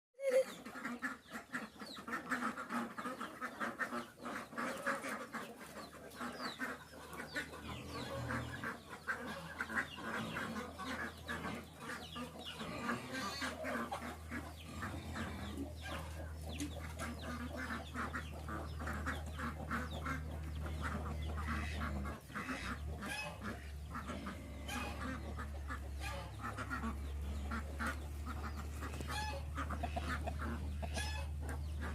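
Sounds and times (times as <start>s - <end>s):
chickens clucking: 0.2s - 31.9s.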